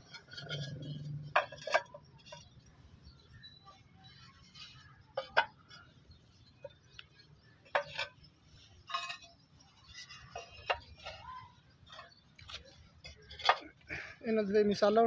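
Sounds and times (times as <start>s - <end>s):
clay roof tiles clinking: 0.0s - 15.0s.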